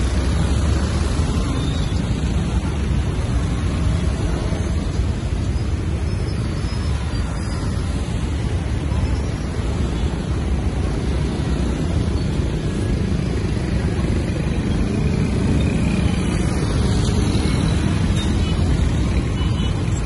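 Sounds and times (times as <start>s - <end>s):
cars passing: 0.0s - 20.0s
motorbikes passing: 0.0s - 20.0s.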